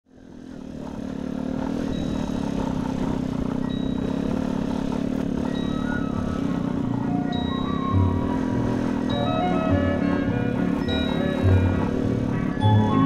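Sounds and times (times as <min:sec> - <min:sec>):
motorcycle engine running: 0:00.1 - 0:13.0.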